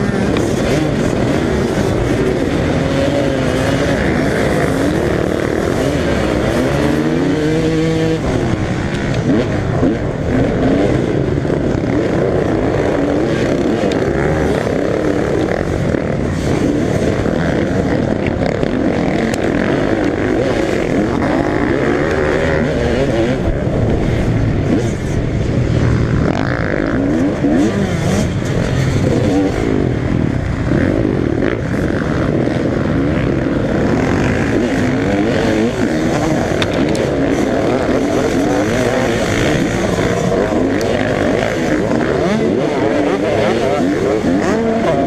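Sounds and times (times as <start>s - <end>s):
motocross bikes revving: 0.0s - 45.0s.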